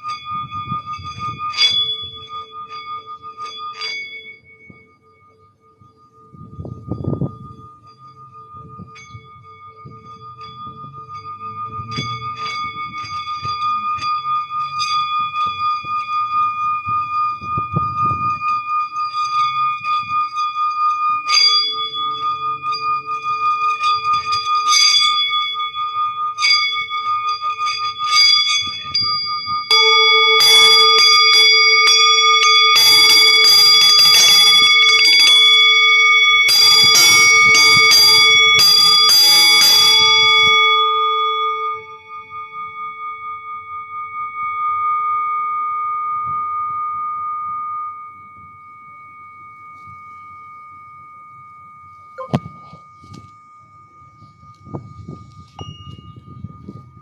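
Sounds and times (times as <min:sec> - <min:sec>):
rapid ringing strikes: 0:00.0 - 0:57.0
singing bowls ringing: 0:00.0 - 0:57.0.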